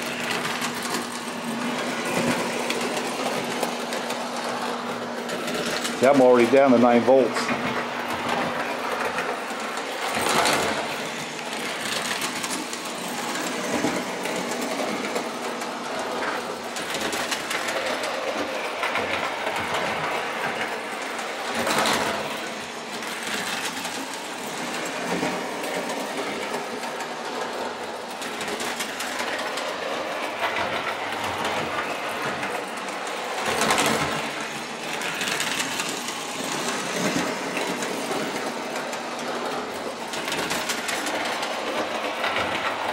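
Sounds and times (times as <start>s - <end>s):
toy train motor whirring: 0.0s - 42.9s
wheels clattering on rails: 0.0s - 42.9s.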